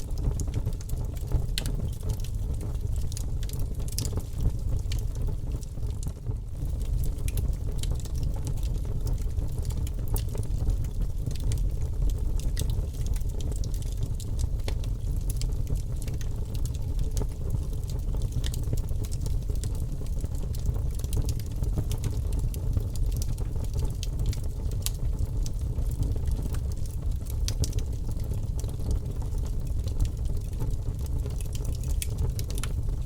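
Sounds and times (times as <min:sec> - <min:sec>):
bonfire crackling and roaring: 0:00.0 - 0:33.0.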